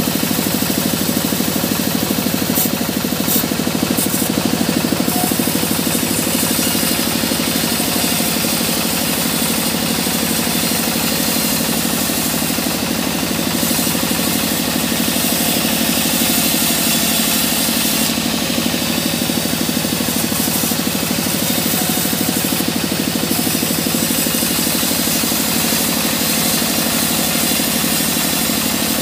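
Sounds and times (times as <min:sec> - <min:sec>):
band saw cutting wood: 0:00.0 - 0:29.0.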